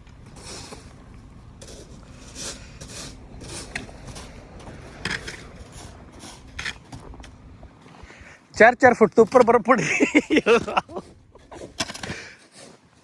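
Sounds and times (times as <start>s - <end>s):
steady low rumble: 0.0s - 9.2s, 9.8s - 11.8s
rough scraping: 0.0s - 13.0s.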